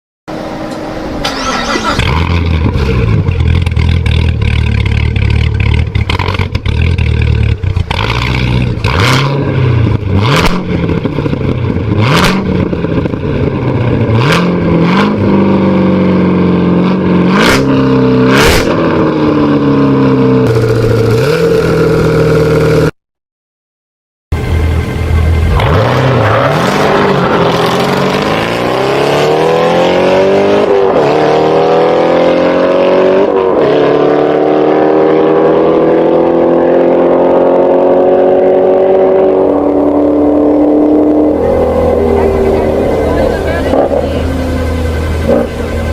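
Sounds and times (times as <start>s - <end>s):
race car engine idling and revving: 0.3s - 22.9s, 24.3s - 45.9s.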